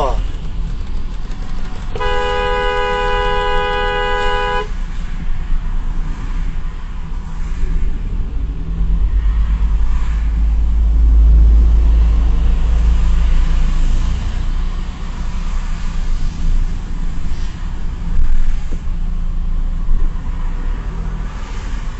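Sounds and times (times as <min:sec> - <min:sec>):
car engine and road rumble: 0:00.0 - 0:21.9.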